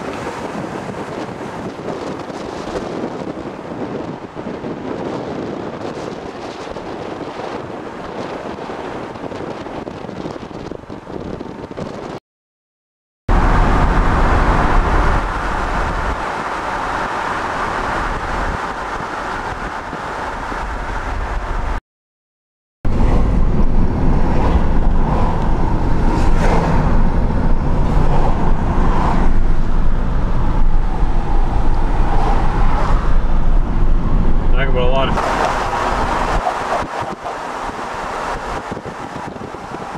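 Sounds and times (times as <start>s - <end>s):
road and wind noise in car: 0.0s - 12.2s, 13.3s - 21.8s, 22.9s - 39.9s.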